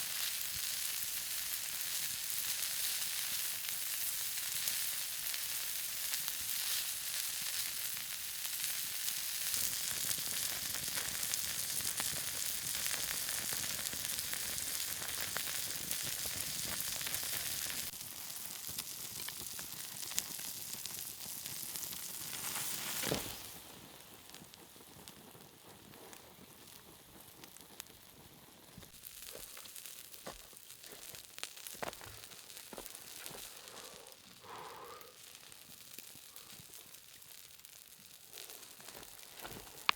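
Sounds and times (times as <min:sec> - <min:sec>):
faint crackles: 0:00.0 - 0:39.9
meat sizzling on hot stone: 0:00.0 - 0:39.9.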